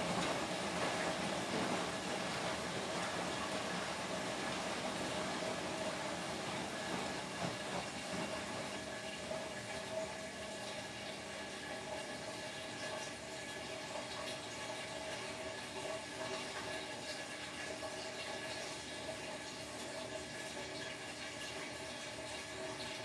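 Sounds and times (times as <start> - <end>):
washing machine whirring: 0.0 - 23.0.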